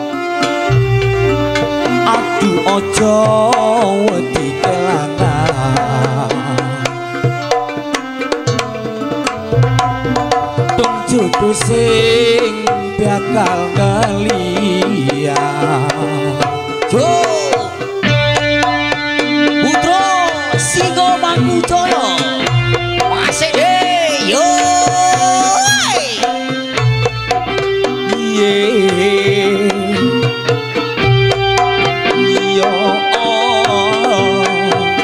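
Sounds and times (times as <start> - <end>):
hand drum busy pattern: 0.0 - 35.0
sliding melody line: 0.0 - 35.0.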